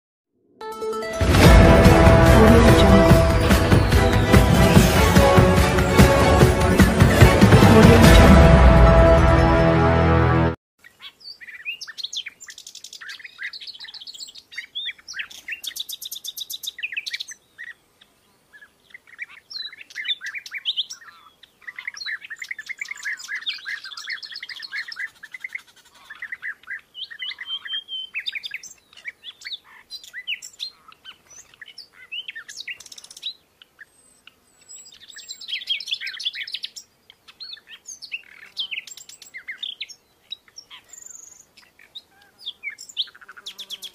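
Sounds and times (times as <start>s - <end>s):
birds chirping and trilling: 1.8s - 7.7s, 10.8s - 43.9s.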